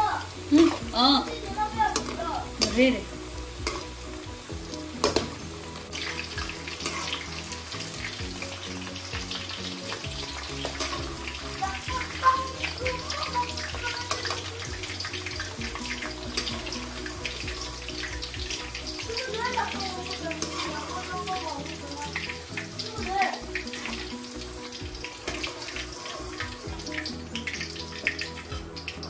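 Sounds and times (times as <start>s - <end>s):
potato slices deep-frying in oil: 0.0s - 29.0s.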